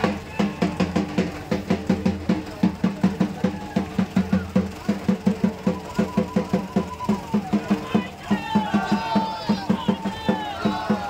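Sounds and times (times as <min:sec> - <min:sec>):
drum beaten fast: 0:00.0 - 0:11.0.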